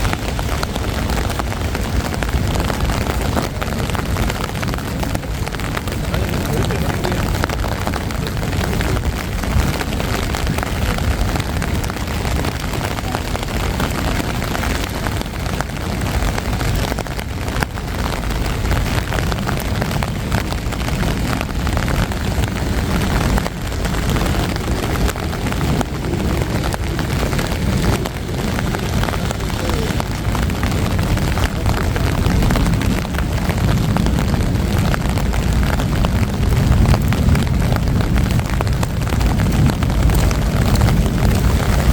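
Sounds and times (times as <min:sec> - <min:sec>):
city traffic rumble: 0:00.0 - 0:41.9.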